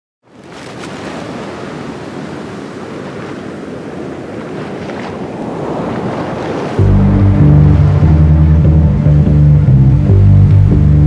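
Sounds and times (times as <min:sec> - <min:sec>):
ocean surf washing: 0:00.2 - 0:11.0.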